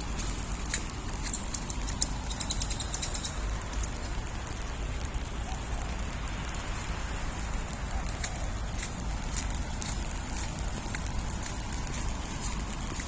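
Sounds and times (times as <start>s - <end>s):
light ticks: 0.0s - 13.0s
low city rumble: 0.0s - 13.0s
rain hissing: 0.0s - 13.0s.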